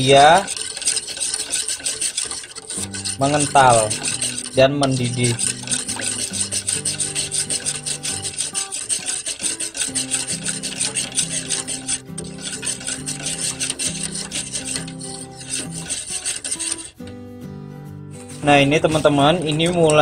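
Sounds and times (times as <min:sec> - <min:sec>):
whisk scraping a metal pot: 0:00.0 - 0:17.2, 0:18.1 - 0:20.0.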